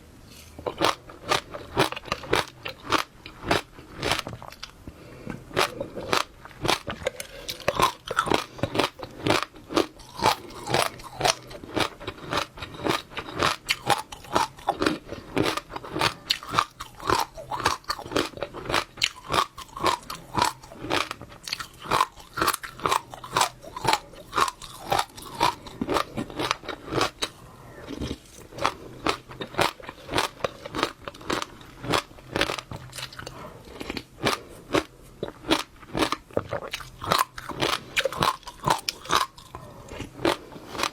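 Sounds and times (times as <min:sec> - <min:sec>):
chewing crunchy seeds: 0:00.3 - 0:40.9.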